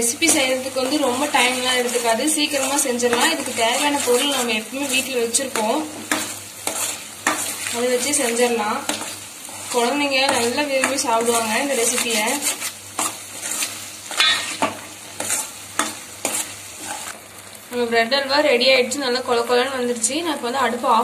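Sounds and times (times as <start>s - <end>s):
metal spoon scraping a pan: 0.0s - 17.2s
ghee sizzling: 0.0s - 21.0s.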